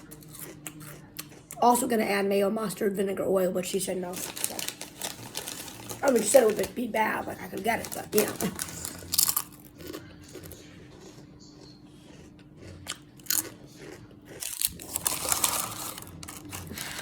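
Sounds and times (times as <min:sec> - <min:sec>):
crunchy chewing of sandwich: 0:00.0 - 0:01.6, 0:04.1 - 0:06.7, 0:07.5 - 0:17.0.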